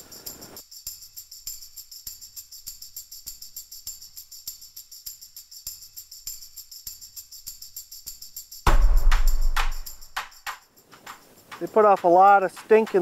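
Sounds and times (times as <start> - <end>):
jingling percussion beat: 0.0 - 13.0.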